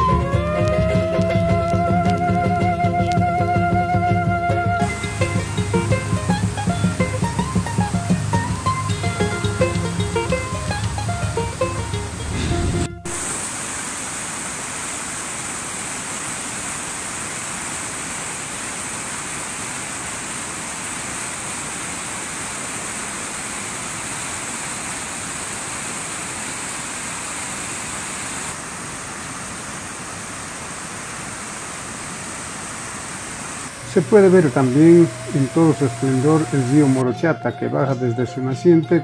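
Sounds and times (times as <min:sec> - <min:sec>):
river rushing over rocks: 0:04.5 - 0:39.0.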